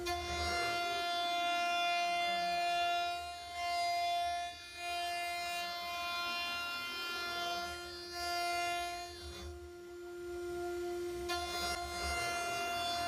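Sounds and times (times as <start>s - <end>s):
cnc router milling metal whine: 0.0s - 13.0s.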